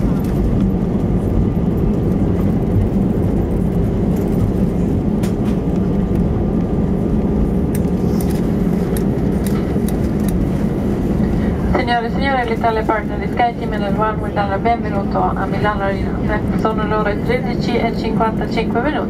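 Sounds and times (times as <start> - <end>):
airplane cabin rumble on runway: 0.0 - 19.0.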